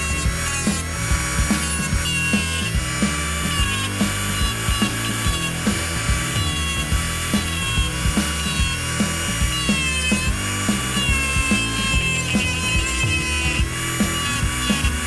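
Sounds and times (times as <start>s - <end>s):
high-pitched whine: 0.0s - 15.0s
music with beat and bass: 0.0s - 15.0s.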